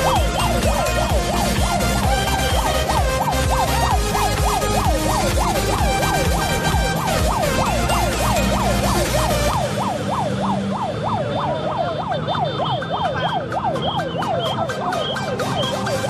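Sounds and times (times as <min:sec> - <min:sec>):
background music with heavy beat: 0:00.0 - 0:11.0, 0:12.2 - 0:16.0
siren wailing in rapid yelp: 0:00.0 - 0:16.0.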